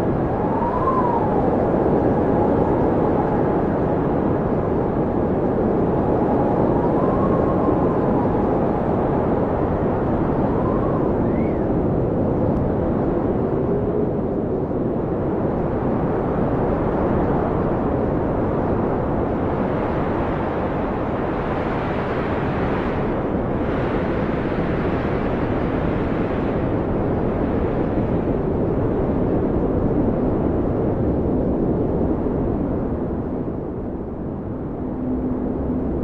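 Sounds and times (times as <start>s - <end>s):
blizzard wind rumble and hiss: 0.0s - 36.0s
faint howling wind tones: 0.0s - 36.0s.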